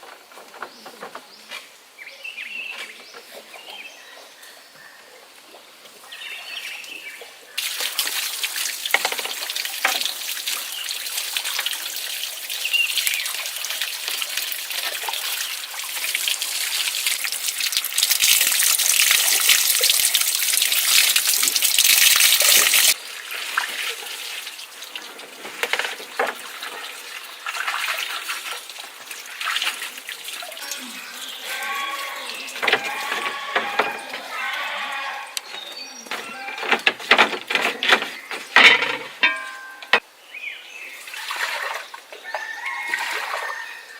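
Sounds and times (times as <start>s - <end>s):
water running and splashing: 5.4s - 40.0s, 40.8s - 43.9s.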